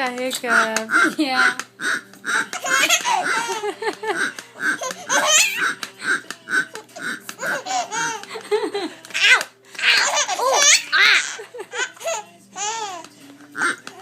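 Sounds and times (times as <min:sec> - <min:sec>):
baby laughing: 0:00.5 - 0:14.0.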